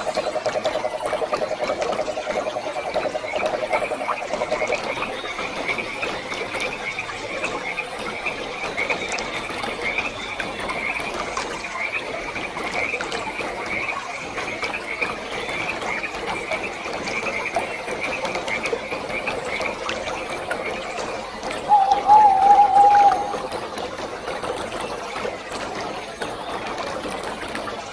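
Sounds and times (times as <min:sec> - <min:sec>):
frogs trilling: 0:00.0 - 0:27.9
water falling: 0:00.0 - 0:27.9.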